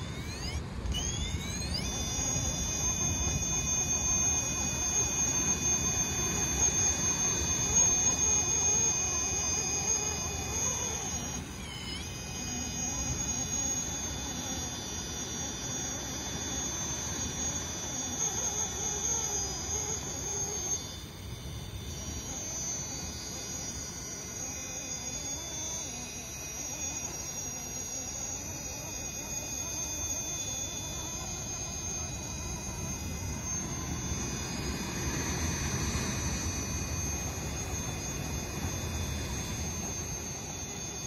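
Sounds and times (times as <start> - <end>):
electric motor whining: 0.0 - 41.0.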